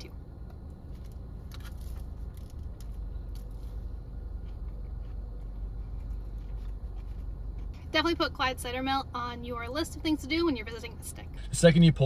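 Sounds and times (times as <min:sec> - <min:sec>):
low car cabin hum: 0:00.0 - 0:12.0.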